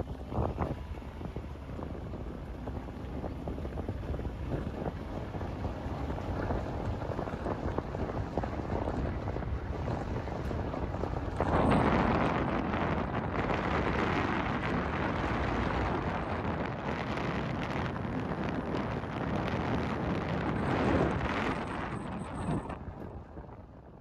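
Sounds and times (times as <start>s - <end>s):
low engine rumble: 0.0s - 24.0s
wind buffeting microphone: 0.0s - 24.0s.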